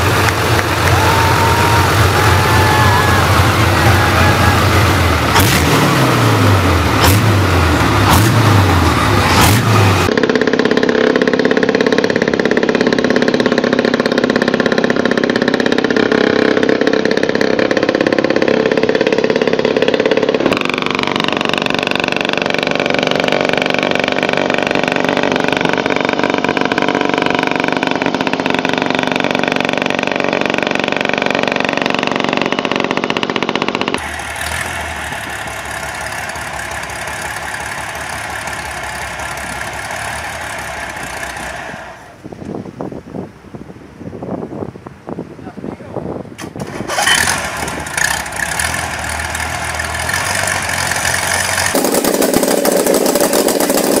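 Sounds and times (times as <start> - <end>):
motorcycle idling: 0.0 - 44.0, 46.2 - 54.0
motorcycle engine running: 0.0 - 45.0, 46.0 - 54.0.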